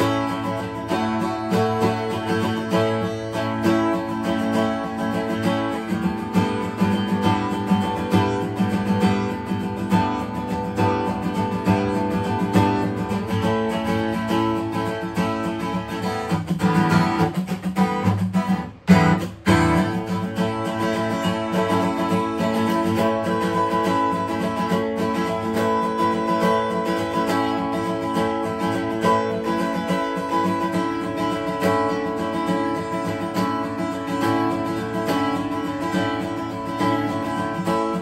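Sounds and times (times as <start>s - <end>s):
acoustic guitar strummed chords: 0.0s - 38.0s.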